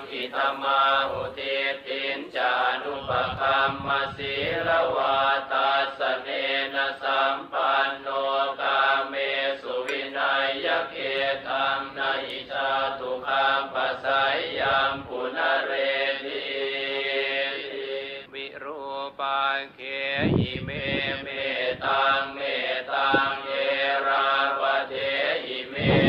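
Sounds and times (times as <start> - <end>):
person chanting: 0.0 - 26.0.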